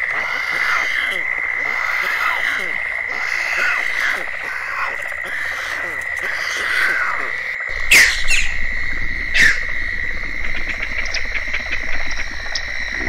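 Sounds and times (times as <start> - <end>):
falling bird calls: 0.0 - 12.8
high-pitched insect trill: 0.0 - 13.0.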